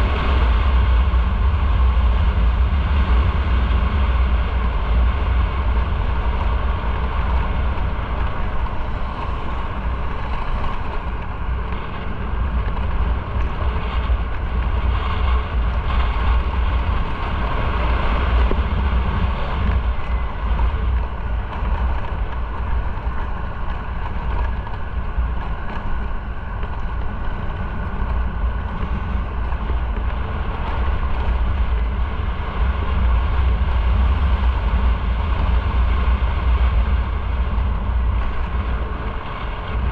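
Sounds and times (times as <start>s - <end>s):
road noise: 0.0s - 39.9s
wind rumbling on microphone: 0.0s - 39.9s.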